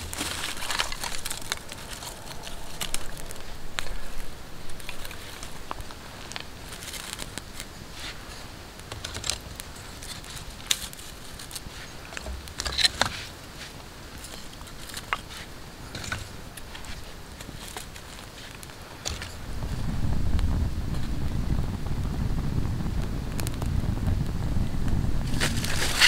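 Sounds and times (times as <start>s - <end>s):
campfire crackling and popping: 0.0s - 26.0s
faint fire hiss: 0.0s - 26.0s.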